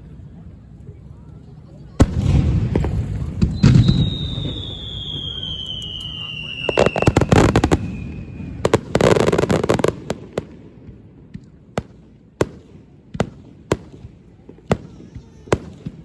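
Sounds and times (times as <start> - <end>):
fireworks crackling bangs: 2.0 - 16.0.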